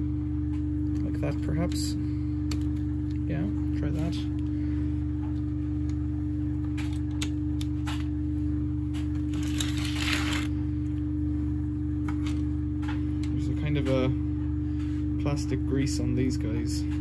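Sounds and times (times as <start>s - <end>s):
tumble dryer humming: 0.0s - 17.0s.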